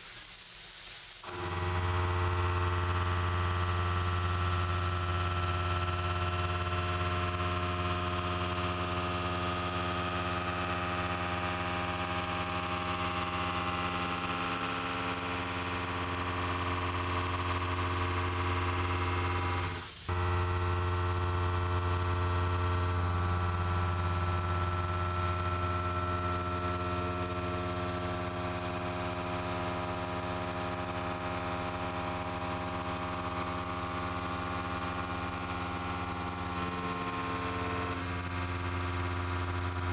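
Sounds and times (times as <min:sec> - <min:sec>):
hiss: 0:00.0 - 0:07.3, 0:07.9 - 0:39.9
milling machine whine: 0:01.3 - 0:39.9.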